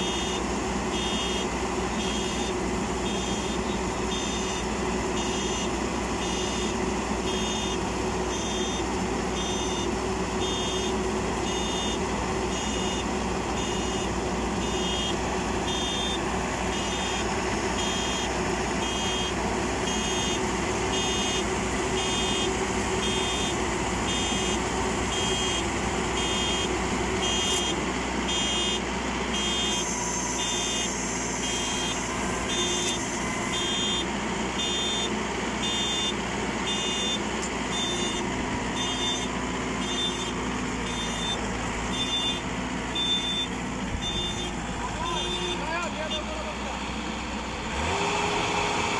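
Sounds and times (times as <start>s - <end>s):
high electronic warning beeps: 0.0s - 28.8s, 29.4s - 46.3s
combine harvester engine running: 0.0s - 48.9s.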